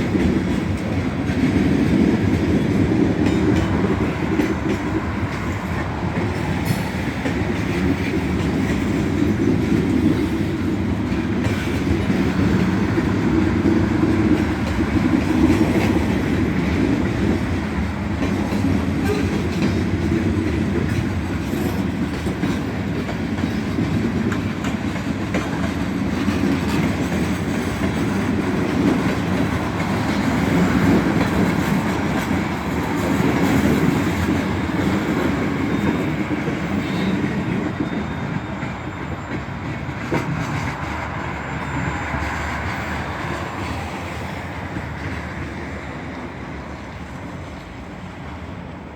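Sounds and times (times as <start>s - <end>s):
train clatter: 0.0s - 48.6s
train wheels rumbling on rail: 0.0s - 48.9s.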